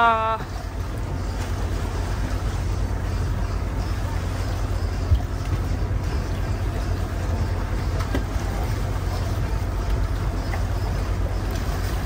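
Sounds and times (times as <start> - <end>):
boat rumble: 0.0 - 12.0.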